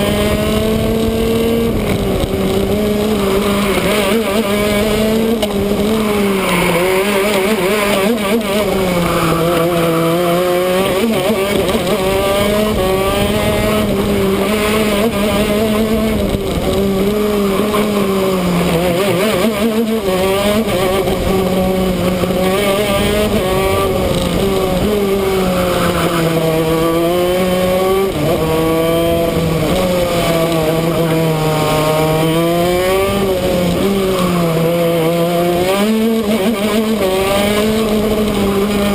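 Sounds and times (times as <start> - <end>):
kart engine revving: 0.0 - 38.9
rush of air and tyre noise: 0.0 - 38.9.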